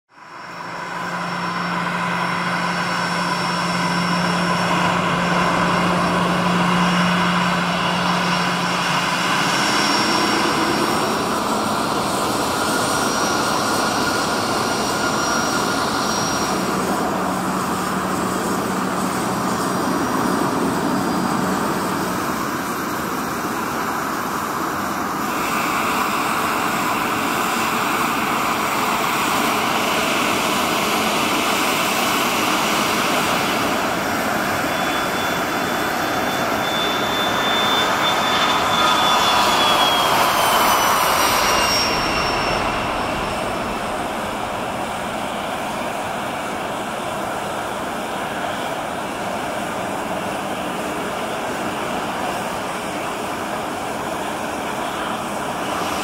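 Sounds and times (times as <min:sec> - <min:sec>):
jet engines whining while taxiing: 0:00.1 - 0:56.0.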